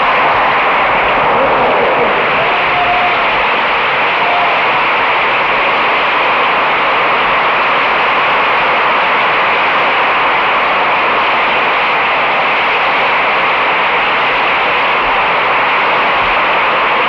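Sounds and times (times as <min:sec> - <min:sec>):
audience applause: 0:00.0 - 0:17.0.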